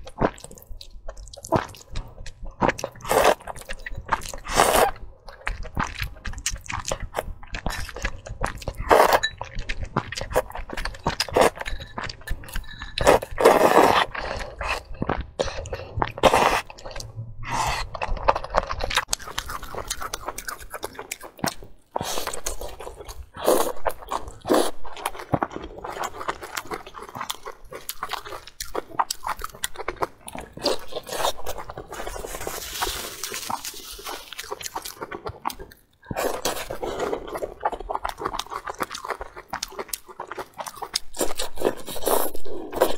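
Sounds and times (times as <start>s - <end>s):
wet chewing and biting: 0.0s - 42.9s.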